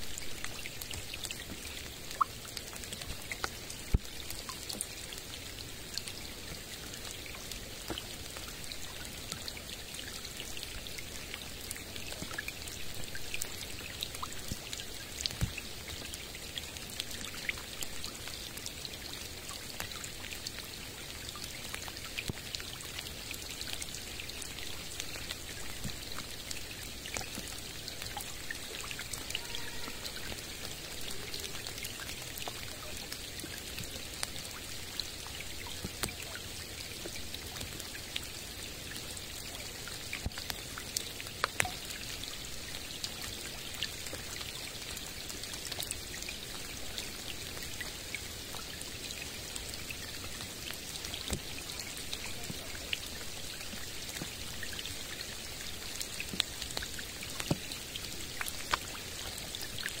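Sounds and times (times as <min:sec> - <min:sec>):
light rain falling: 0:00.0 - 1:00.0
raindrops ticking: 0:00.0 - 1:00.0.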